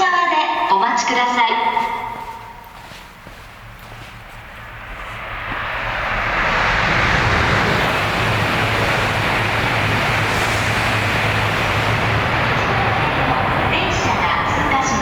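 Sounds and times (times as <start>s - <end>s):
train rushing past: 0.0s - 15.0s
low hum: 1.8s - 14.9s.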